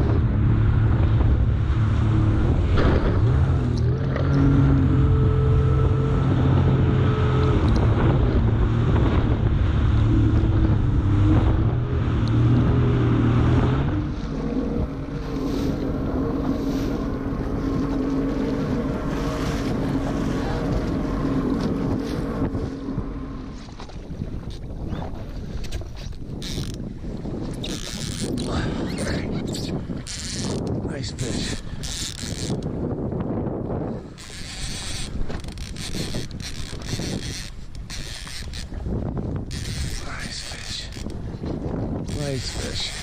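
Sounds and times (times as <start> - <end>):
jet ski engine running: 0.0 - 43.0
wind buffeting microphone: 0.0 - 43.0.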